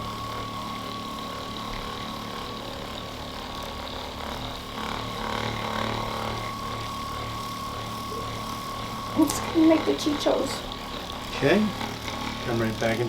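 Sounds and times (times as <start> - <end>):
massager motor whine: 0.0 - 13.0.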